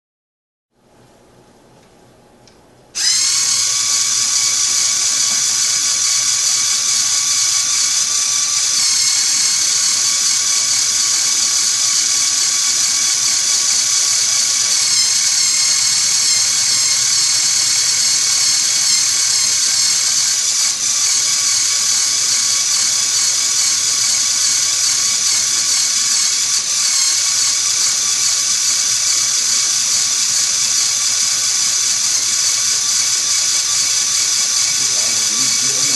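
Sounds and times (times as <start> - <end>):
toy motor whirring whine: 3.0 - 35.9.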